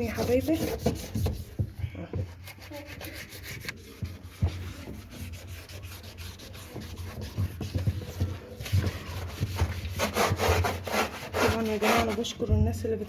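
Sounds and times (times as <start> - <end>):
toothbrush scrubbing plastic: 0.0 - 1.6, 2.3 - 12.4.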